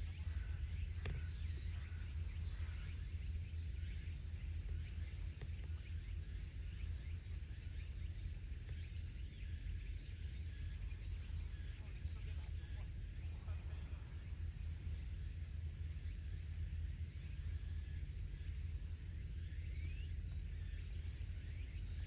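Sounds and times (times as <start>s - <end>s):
faint bird chirps: 0.0s - 22.0s
insects hissing: 0.0s - 22.0s.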